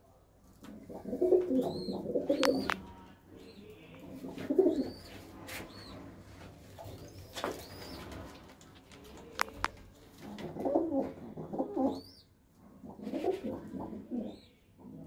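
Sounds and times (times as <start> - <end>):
pigeons cooing: 0.6 - 6.1, 6.8 - 15.0.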